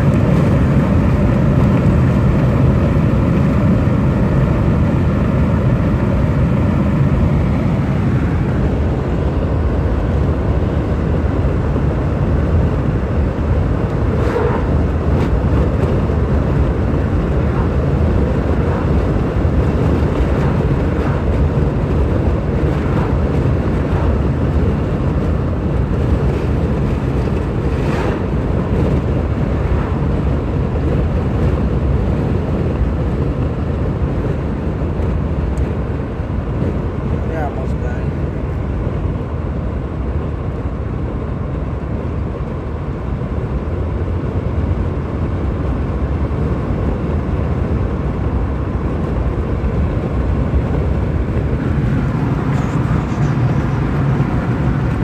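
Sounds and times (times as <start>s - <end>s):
car cabin engine and road noise: 0.0s - 55.0s.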